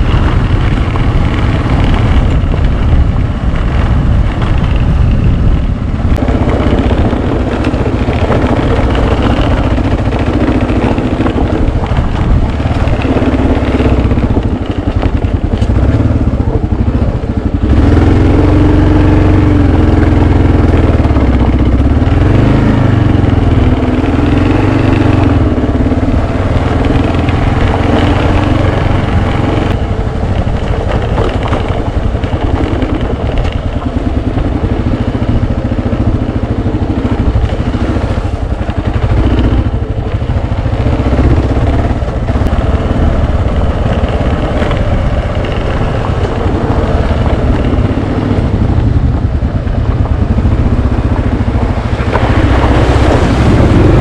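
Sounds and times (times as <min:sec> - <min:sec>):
motorcycle engine running: 0:00.0 - 0:54.0
rough noisy rush: 0:00.0 - 0:54.0.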